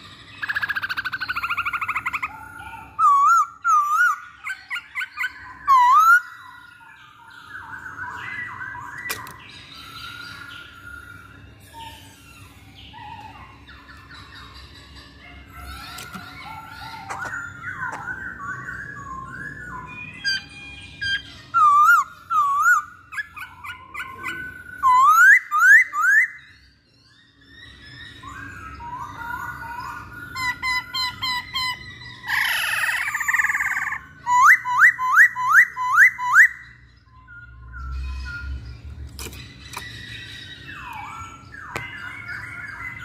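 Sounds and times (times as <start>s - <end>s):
bird singing: 0.0s - 43.0s.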